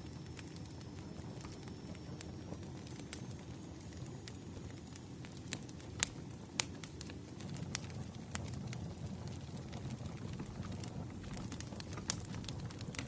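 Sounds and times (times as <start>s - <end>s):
fire rumbling: 0.0s - 13.0s
wood fire popping: 0.0s - 13.0s.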